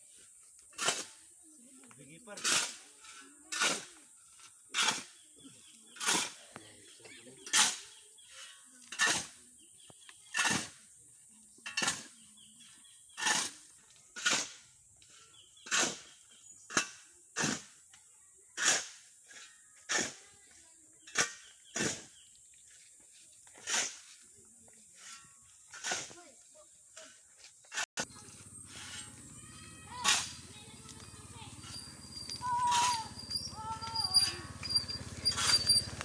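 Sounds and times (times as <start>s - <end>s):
hand tool striking ground: 0.5s - 18.0s, 18.6s - 22.5s, 23.4s - 36.0s.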